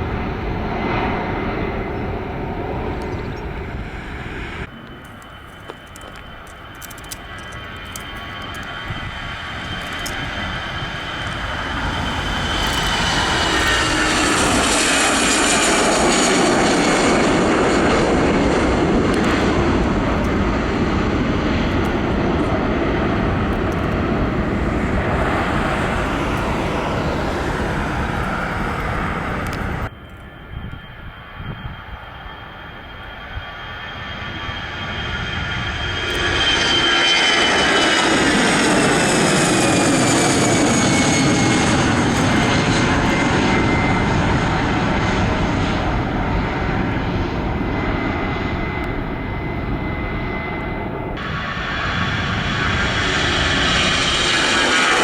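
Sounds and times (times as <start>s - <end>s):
airliner passing with engine whine: 0.0s - 55.0s.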